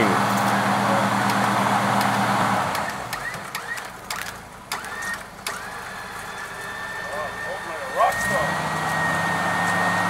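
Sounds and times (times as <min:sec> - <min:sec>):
electric winch motor humming: 0:00.0 - 0:10.0.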